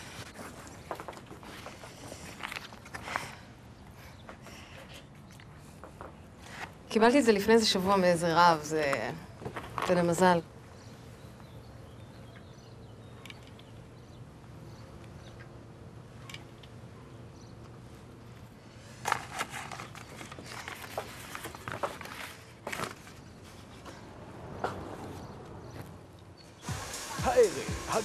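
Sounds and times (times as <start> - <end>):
low street hum: 0.0 - 28.0.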